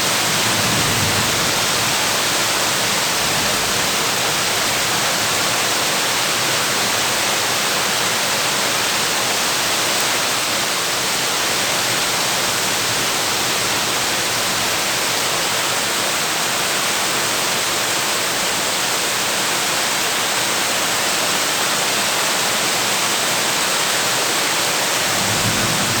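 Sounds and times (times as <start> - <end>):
heavy rain on a tin roof: 0.0 - 26.0.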